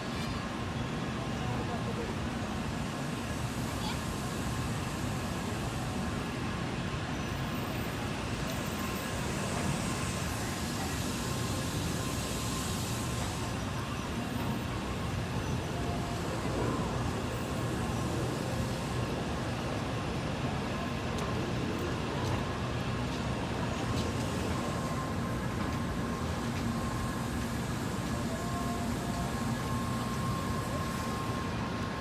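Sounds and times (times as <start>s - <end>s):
low rumbling machinery noise: 0.0s - 32.0s.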